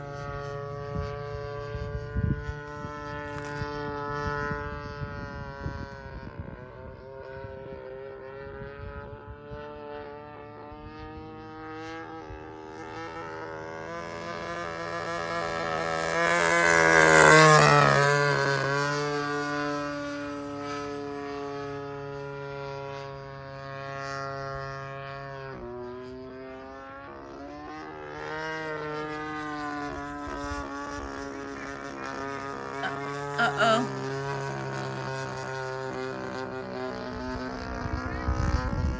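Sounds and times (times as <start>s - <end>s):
model airplane engine: 0.0s - 38.9s.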